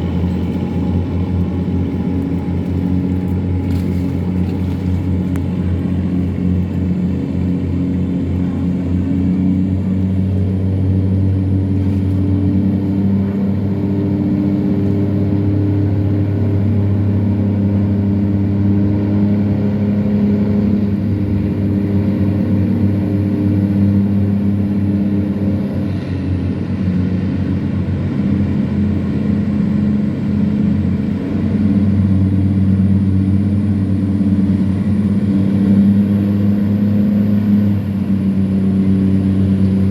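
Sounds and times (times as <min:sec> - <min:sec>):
tugboat diesel engine drone: 0:00.0 - 0:39.9.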